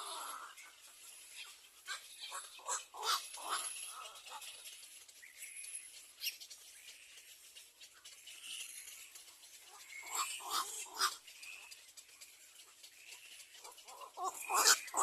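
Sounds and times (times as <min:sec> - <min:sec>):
young birds peeping: 0:00.0 - 0:15.0.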